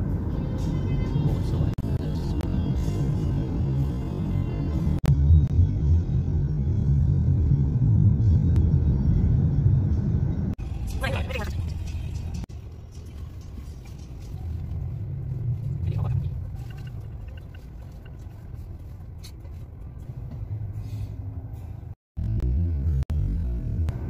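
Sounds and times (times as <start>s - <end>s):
car road noise rumble: 0.0s - 24.0s.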